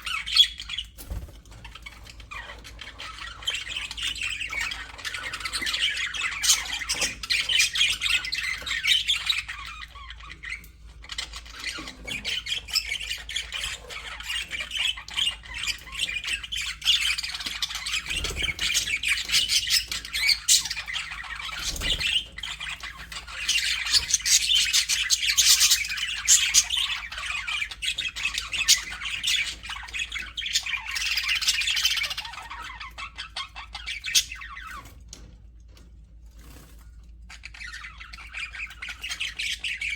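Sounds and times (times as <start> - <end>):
budgerigars chattering and chirping: 0.0 - 35.0, 36.4 - 39.9.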